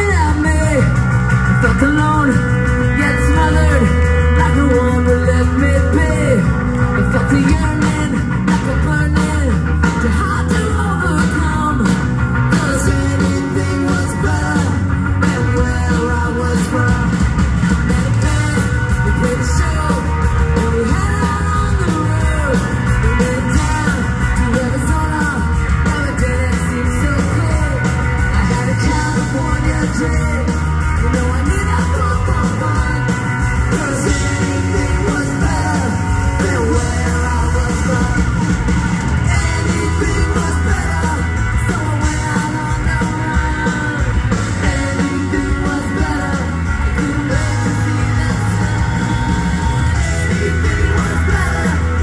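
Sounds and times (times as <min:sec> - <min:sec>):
bass guitar: 0:00.0 - 0:52.0
drums: 0:00.0 - 0:52.0
electric guitar: 0:00.0 - 0:52.0
woman singing lead: 0:01.7 - 0:17.3, 0:17.9 - 0:52.0.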